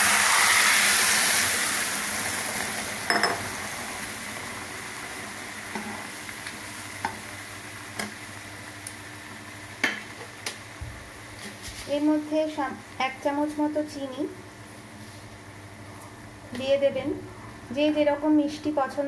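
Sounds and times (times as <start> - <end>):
lentils sizzling in hot oil: 0.0 - 16.6.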